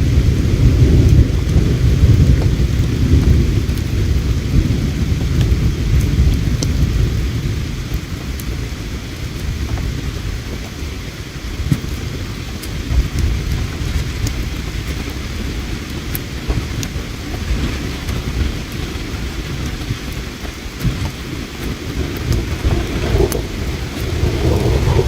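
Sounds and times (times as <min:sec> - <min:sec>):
campfire crackling and popping: 0:00.0 - 0:25.0
flowing river water: 0:00.0 - 0:25.0.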